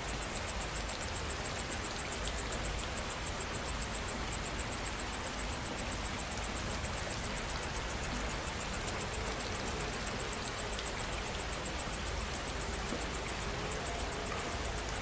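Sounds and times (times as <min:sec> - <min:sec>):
insect chirping: 0:00.0 - 0:15.0
steady rain falling: 0:00.0 - 0:15.0.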